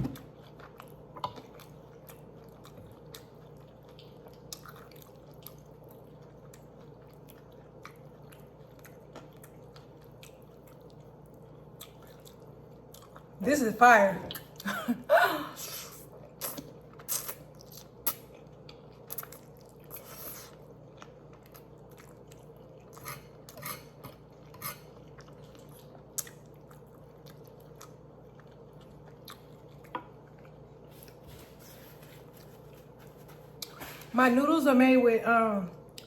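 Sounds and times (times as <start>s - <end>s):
person chewing crunchy food: 0.0s - 13.4s, 15.9s - 34.1s.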